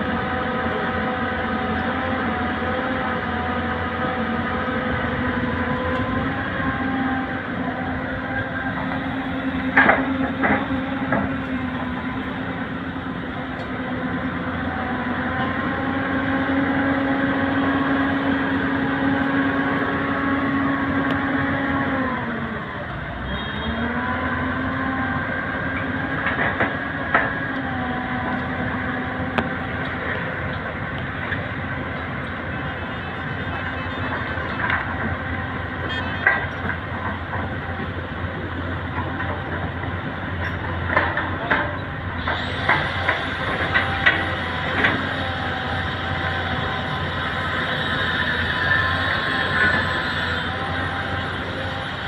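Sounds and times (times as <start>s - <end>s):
excavator loading soil: 0.0s - 52.0s
heavy diesel engine running: 0.0s - 52.0s.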